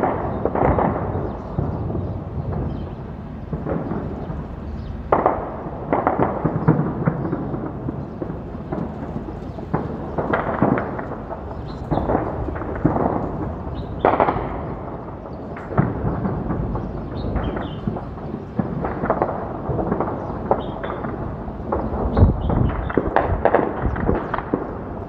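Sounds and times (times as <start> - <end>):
constant low rumble: 0.0 - 25.0
distant gunfire bursts: 0.0 - 25.0.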